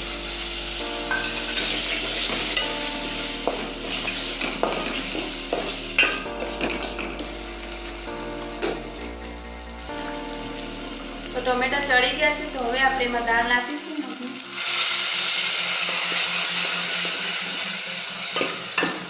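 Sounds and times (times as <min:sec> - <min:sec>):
tomatoes sizzling in hot oil: 0:00.0 - 0:19.0.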